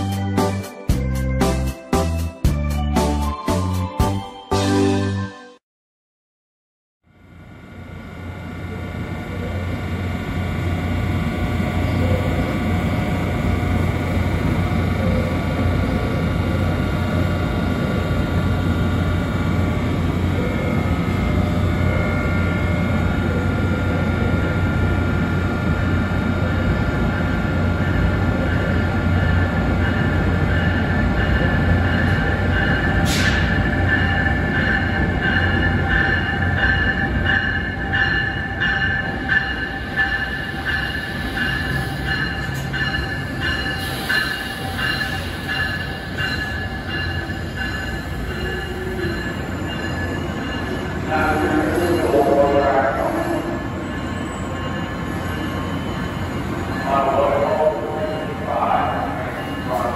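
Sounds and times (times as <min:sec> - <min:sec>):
pulsing high whine of locomotive: 0:07.1 - 0:59.9
train rumble: 0:07.2 - 0:59.9.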